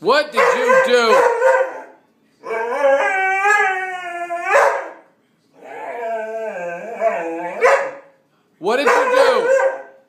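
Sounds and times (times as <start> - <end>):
dog howling: 0.4 - 5.0, 5.6 - 7.9, 8.8 - 10.0.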